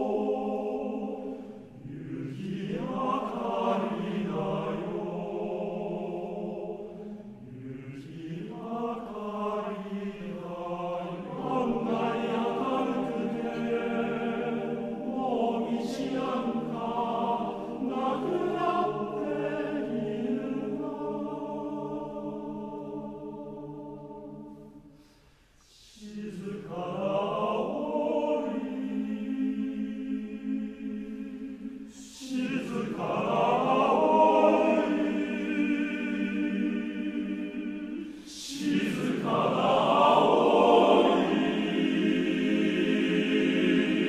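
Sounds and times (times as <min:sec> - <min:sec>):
men's choir singing harmony: 0:00.0 - 0:25.1, 0:25.8 - 0:44.0.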